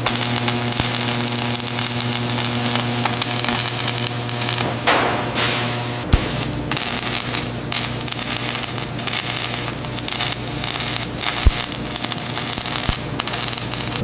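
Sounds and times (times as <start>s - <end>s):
low machinery hum: 0.0s - 14.0s
machinery crackling and clattering: 0.0s - 14.0s.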